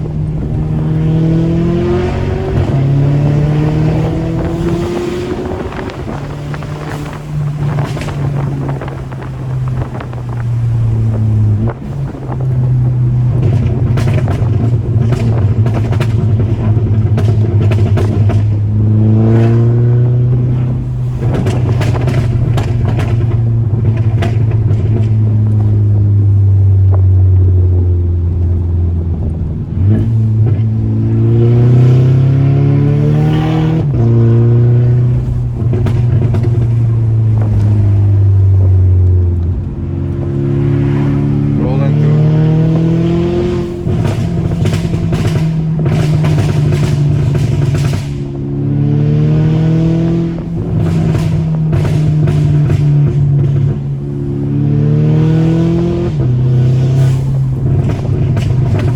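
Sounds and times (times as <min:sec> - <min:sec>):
car engine accelerating: 0:00.0 - 0:58.9
exhaust crackles and pops: 0:00.0 - 0:58.9.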